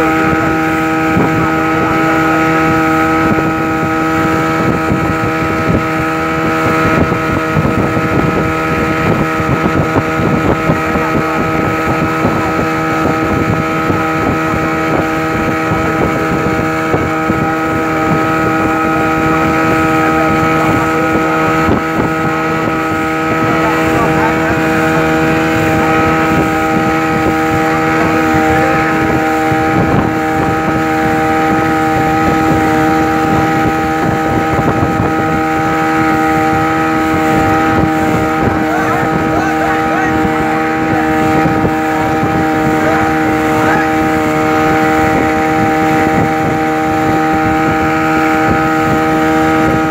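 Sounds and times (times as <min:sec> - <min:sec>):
speedboat engine whine: 0:00.0 - 0:49.9
water rushing against hull: 0:00.0 - 0:49.9.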